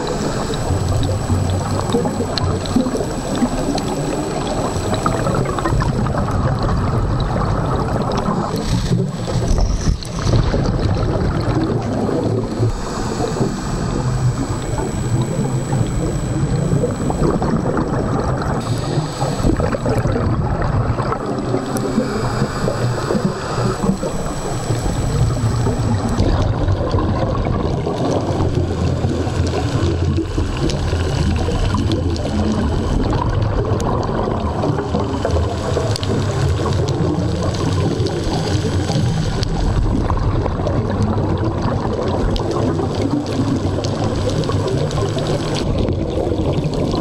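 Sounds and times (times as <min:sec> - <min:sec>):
diver's bubbles gurgling: 0:00.0 - 0:47.0
underwater low wash: 0:00.0 - 0:47.0.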